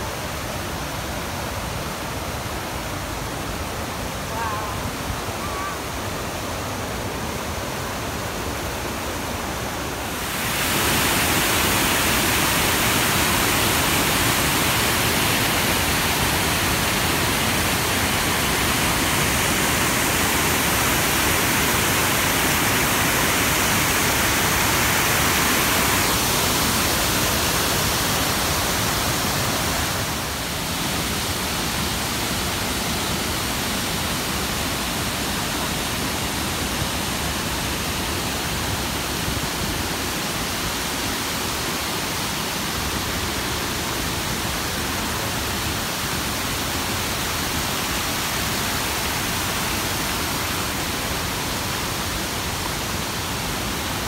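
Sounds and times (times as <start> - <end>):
rushing water of rapids: 0.0 - 54.0.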